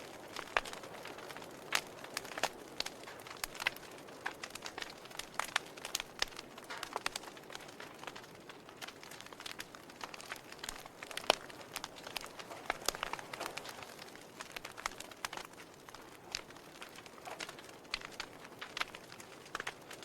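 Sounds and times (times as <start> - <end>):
logs crackling and popping: 0.0 - 20.0
soft hiss of flame: 0.0 - 20.0.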